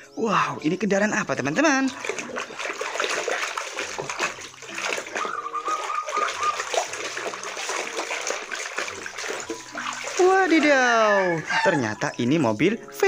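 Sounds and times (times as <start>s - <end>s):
water splashing and running: 0.9s - 13.0s.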